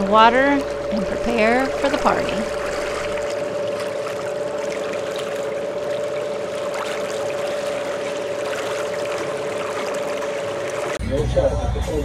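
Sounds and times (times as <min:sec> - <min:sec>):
water rushing along hull: 0:00.0 - 0:11.1
steady hum: 0:00.0 - 0:12.0.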